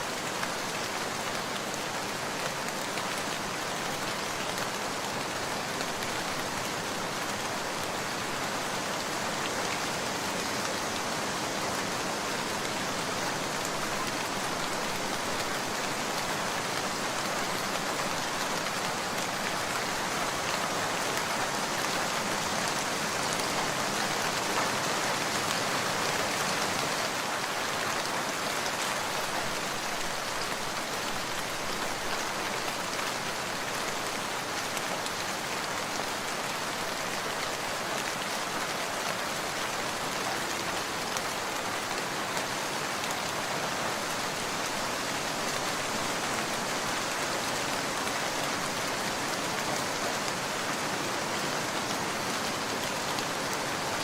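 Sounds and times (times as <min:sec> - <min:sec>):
rain pattering on surfaces: 0:00.0 - 0:54.0.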